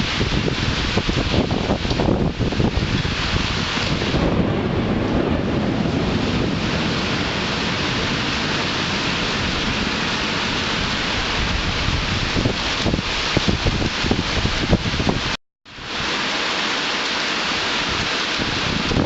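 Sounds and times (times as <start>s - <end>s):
wind buffeting microphone: 0.0s - 15.4s, 17.8s - 19.0s
heavy rain hissing: 0.0s - 19.0s.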